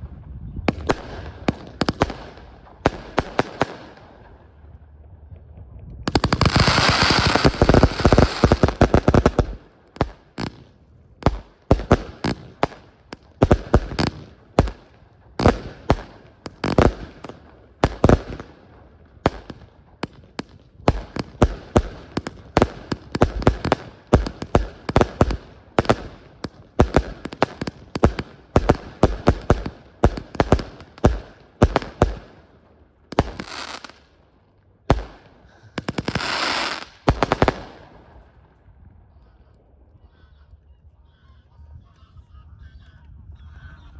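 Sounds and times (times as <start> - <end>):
fireworks bangs: 0.0 - 4.6, 6.1 - 34.2, 34.9 - 38.5
fireworks crackling: 0.7 - 4.4, 6.1 - 38.4.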